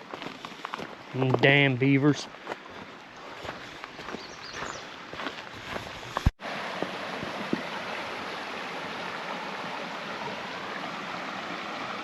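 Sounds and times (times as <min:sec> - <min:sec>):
stream water flowing: 0:02.4 - 0:12.0.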